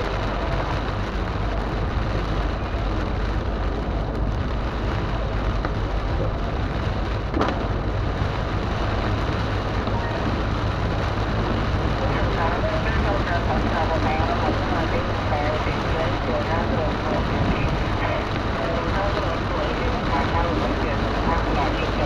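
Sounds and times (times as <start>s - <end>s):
heavy rain on a car: 0.0s - 22.0s
road noise: 0.0s - 22.0s.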